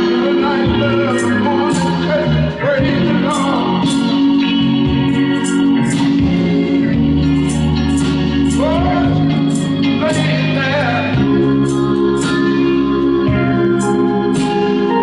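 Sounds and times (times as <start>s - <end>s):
cymbals ticking: 0.0s - 14.8s
bass line: 0.0s - 15.0s
organ chords: 0.0s - 15.0s
person singing sliding notes: 0.0s - 15.0s.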